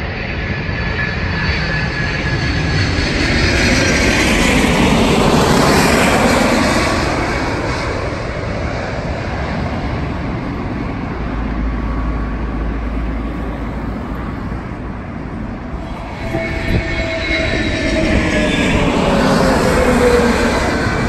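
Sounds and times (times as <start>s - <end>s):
approaching jet engine whine: 0.0s - 21.0s
jet airliner engine noise: 0.0s - 21.0s.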